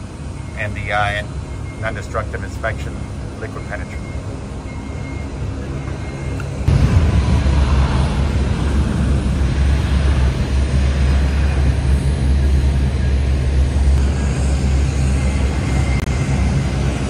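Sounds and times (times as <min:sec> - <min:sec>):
airport apron low rumble: 0:00.0 - 0:17.0.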